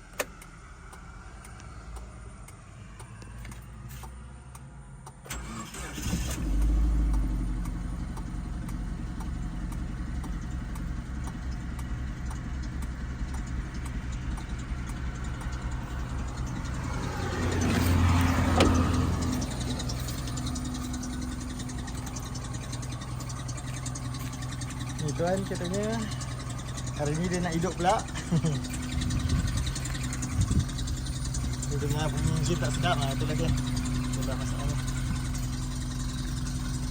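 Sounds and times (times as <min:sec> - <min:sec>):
engine cranked on starter: 0:05.2 - 0:36.9
engine running roughly with knocking: 0:06.4 - 0:36.9.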